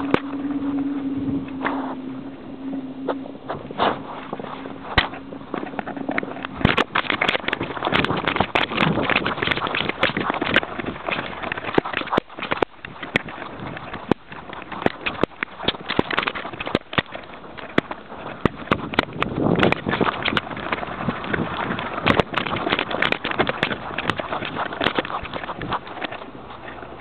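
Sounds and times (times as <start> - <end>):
camera rubbing against fur: 0.0 - 27.0.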